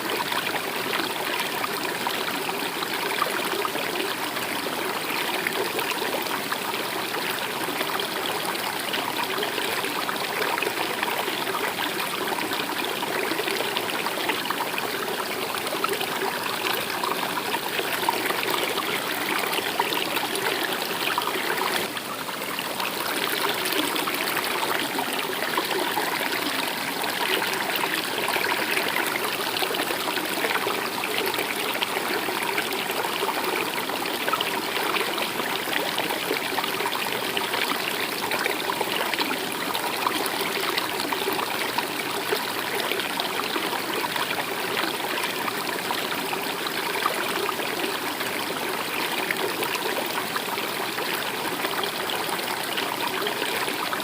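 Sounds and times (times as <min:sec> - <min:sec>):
stream flowing water: 0:00.0 - 0:54.0.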